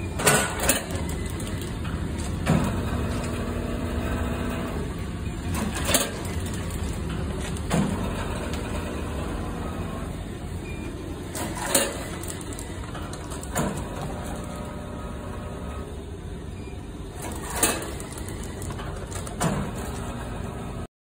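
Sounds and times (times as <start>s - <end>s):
packaging machine humming: 0.0s - 20.9s.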